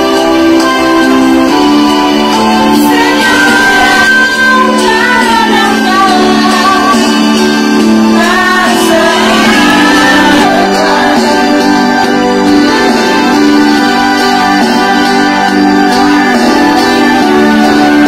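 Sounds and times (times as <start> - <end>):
keyboard chords: 0.0 - 18.0
woman singing into microphone: 0.0 - 18.0.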